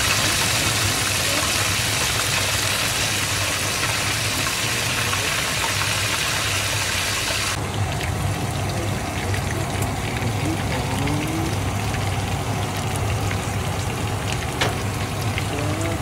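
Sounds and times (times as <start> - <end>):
oil crackling and popping: 0.0 - 15.5
fish sizzling in hot oil: 0.0 - 16.0.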